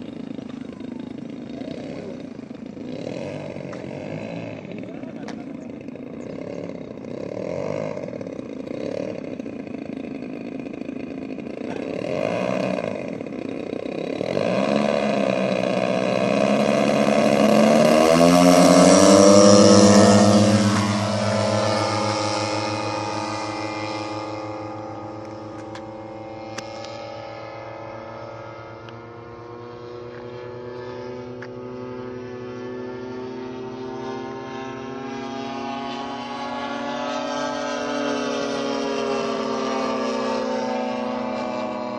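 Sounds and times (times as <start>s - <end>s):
model plane engines running: 0.0s - 41.9s.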